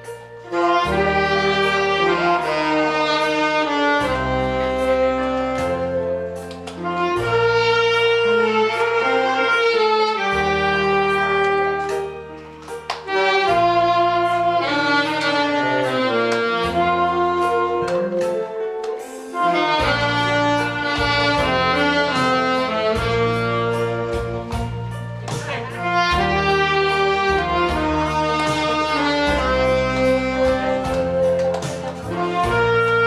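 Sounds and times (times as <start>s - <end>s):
backing track with bass and beat: 0.0s - 33.0s
saxophone melody: 0.0s - 33.0s.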